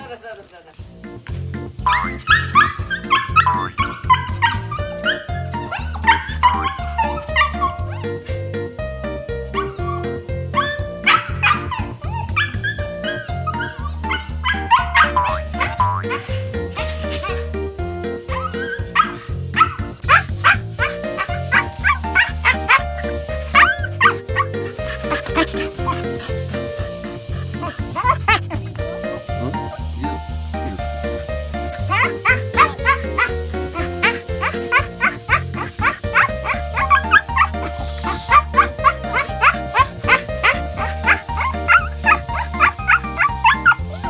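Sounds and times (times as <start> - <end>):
background music with steady beat: 0.0 - 44.0
dog yipping and whining: 1.8 - 8.4, 9.4 - 17.5, 18.2 - 29.9, 31.7 - 44.0.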